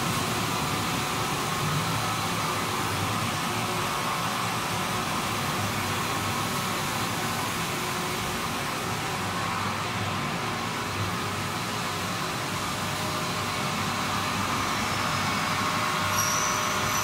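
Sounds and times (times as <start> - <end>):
machinery hum and hiss: 0.0 - 17.0.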